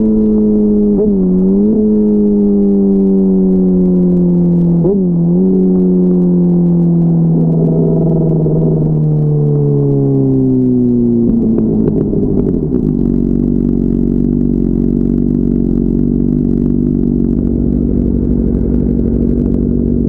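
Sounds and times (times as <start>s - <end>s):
motorcycle engine cruising: 0.0s - 20.0s
wind and road rumble: 0.0s - 20.0s.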